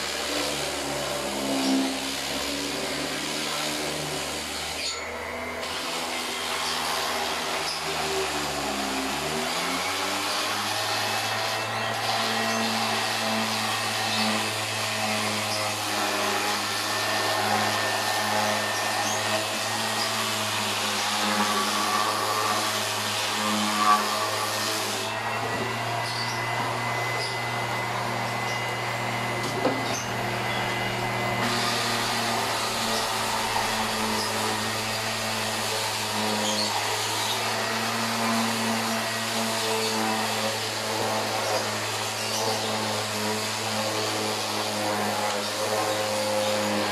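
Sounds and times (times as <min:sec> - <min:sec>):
orbital sander humming: 0:00.0 - 0:46.9
sanding pad hissing on wood: 0:00.0 - 0:46.9.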